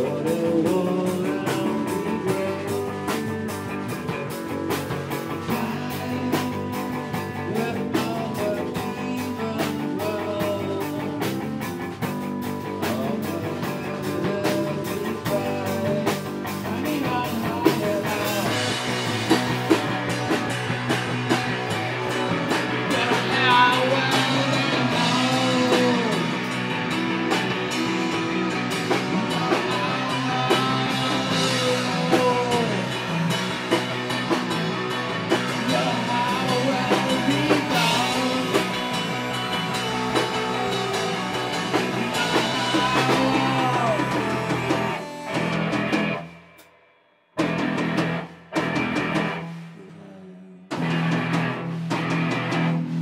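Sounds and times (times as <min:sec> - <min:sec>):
electric guitar with effects: 0:00.0 - 0:46.8, 0:47.4 - 0:53.0
drums: 0:00.0 - 0:53.0.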